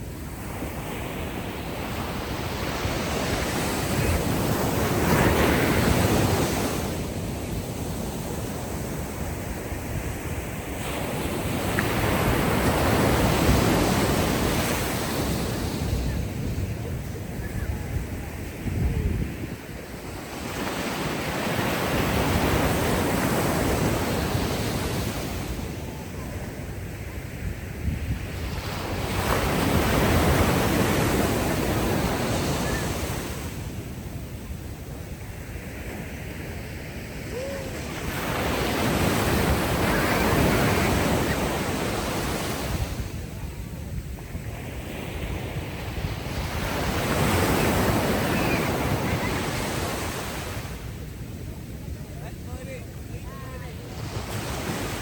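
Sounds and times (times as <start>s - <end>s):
ocean waves on beach: 0.0s - 55.0s.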